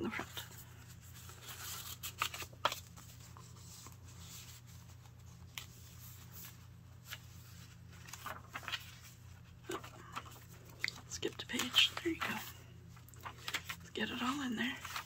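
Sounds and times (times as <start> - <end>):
faint low hum: 0.0 - 15.0
pages turning: 0.0 - 15.0
paper rustling: 0.0 - 15.0.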